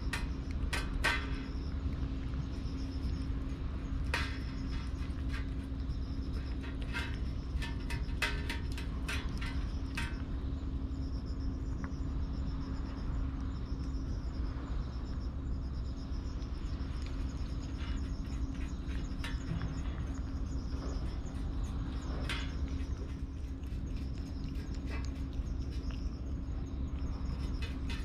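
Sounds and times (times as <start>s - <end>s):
insects chirping: 0.0s - 28.0s
steady low hum: 0.0s - 28.0s.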